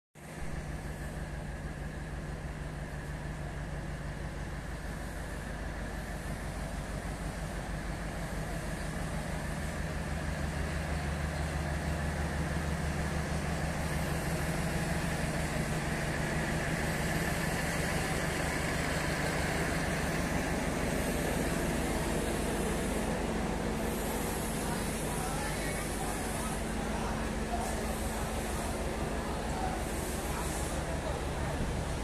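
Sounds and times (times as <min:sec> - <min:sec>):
train engine droning: 0:00.3 - 0:32.0.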